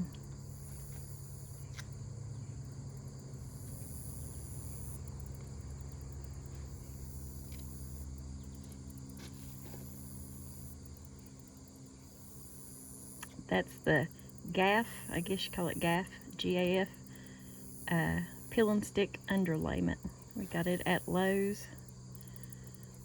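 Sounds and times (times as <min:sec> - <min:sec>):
insects chirping: 0:00.0 - 0:23.0
low steady hum: 0:00.0 - 0:23.0.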